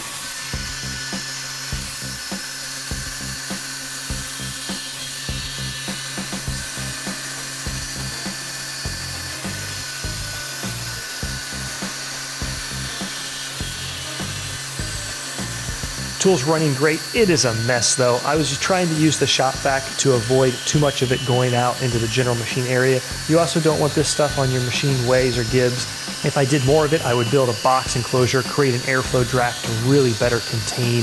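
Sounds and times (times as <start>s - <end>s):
background music with steady beat: 0.0s - 31.0s
milling spindle whining: 0.0s - 31.0s.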